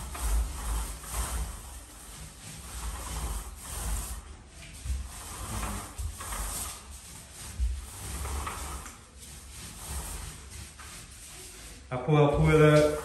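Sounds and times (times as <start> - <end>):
paint roller rubbing on wall: 0.0 - 13.0.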